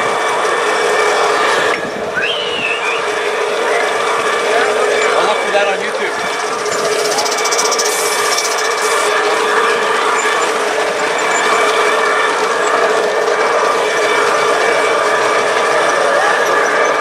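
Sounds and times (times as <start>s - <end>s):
model locomotive whine: 0.0s - 17.0s.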